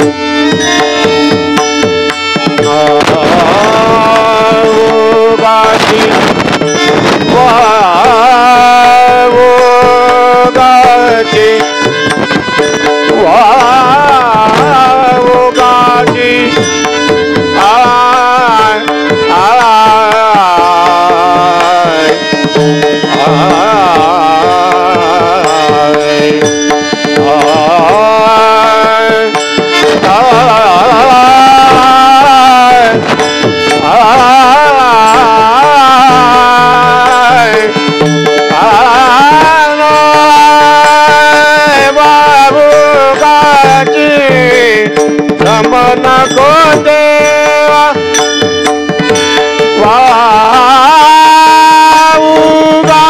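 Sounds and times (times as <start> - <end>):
drum beats: 0.0 - 53.0.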